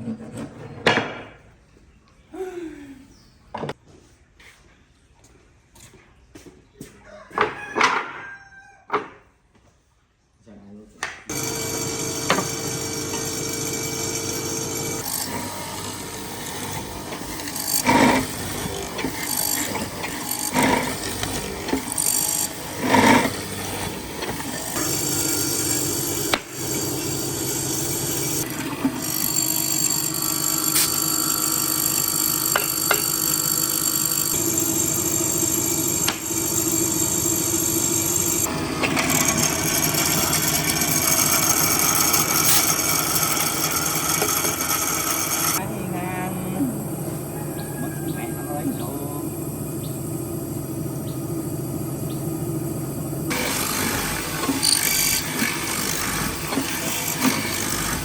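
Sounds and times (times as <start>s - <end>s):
power tool whining against wood: 11.3s - 58.0s.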